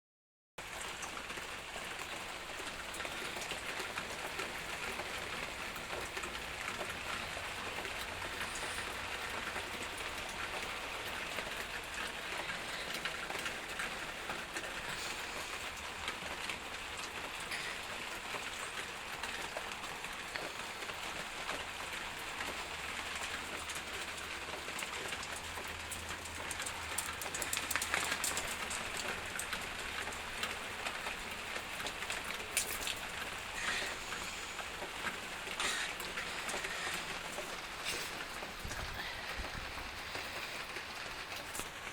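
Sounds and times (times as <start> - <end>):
rain pattering: 0.6 - 41.9.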